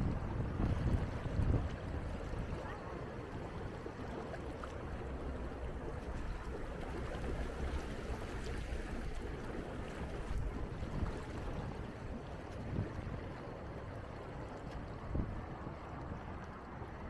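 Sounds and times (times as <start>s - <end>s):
whirlpool jets bubbling water: 0.0s - 17.0s.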